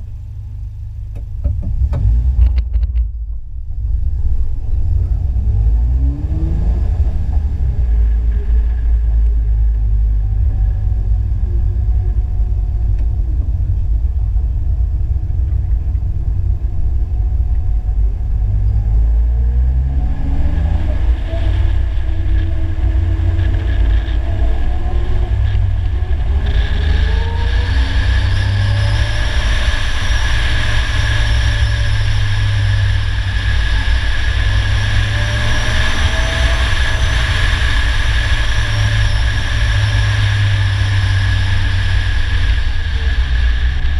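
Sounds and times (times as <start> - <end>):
car engine accelerating: 0.0 - 43.9
wind and road noise hiss: 0.0 - 43.9
wind rumble on microphone: 0.0 - 43.9.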